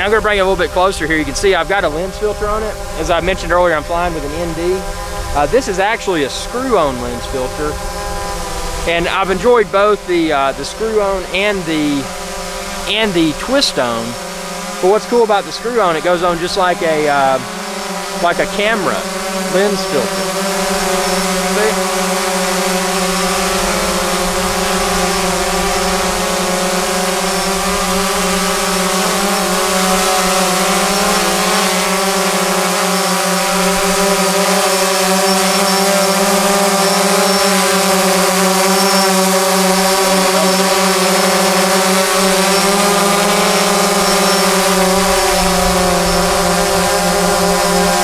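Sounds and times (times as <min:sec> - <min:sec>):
drone buzzing whine: 0:00.0 - 0:48.0.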